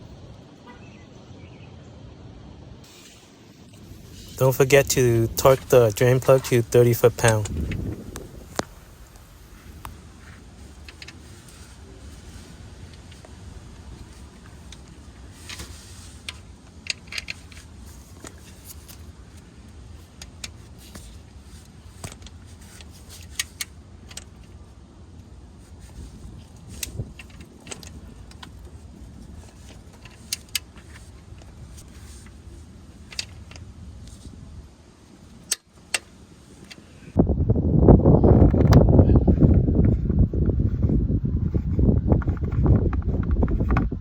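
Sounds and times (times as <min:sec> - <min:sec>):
low steady background rumble: 0:00.0 - 0:44.0.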